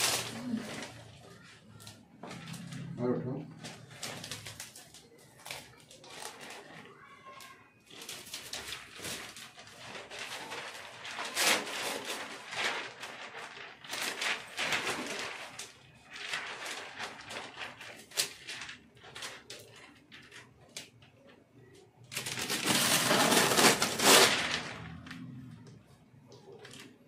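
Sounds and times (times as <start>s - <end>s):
vinyl sheet rustling and crinkling: 0.0s - 27.0s.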